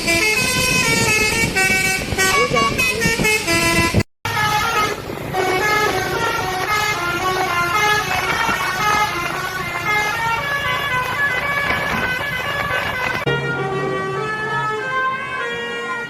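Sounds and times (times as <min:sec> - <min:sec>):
musical bus horn melody: 0:00.0 - 0:16.0.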